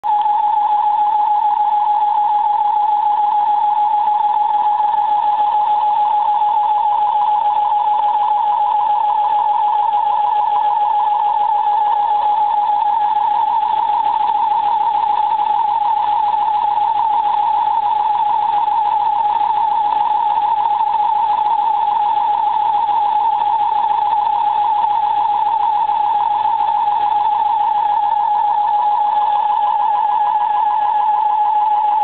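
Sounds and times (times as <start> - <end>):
high-pitched fluttering whine: 0.1 - 32.0.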